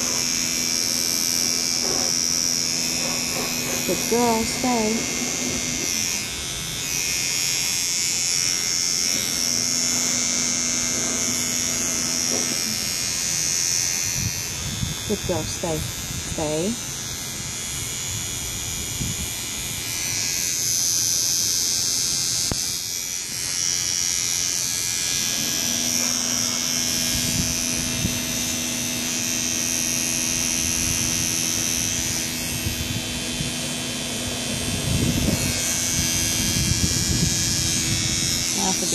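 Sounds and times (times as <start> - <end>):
electric pet trimmer running: 0.0 - 38.9
high trimmer whine: 0.0 - 38.9.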